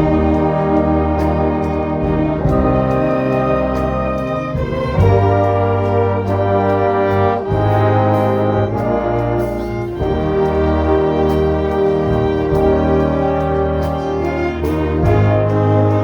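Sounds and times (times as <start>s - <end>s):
low bass notes: 0.0s - 16.0s
orchestra brass chords: 0.0s - 16.0s.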